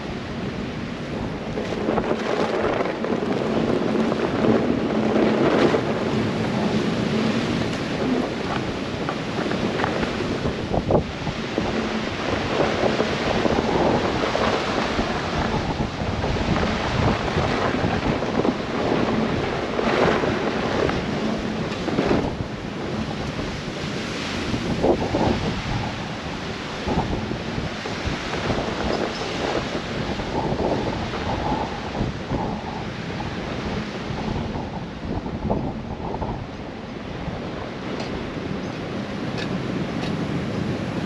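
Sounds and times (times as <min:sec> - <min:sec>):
wind buffeting the microphone: 0:00.0 - 0:41.0.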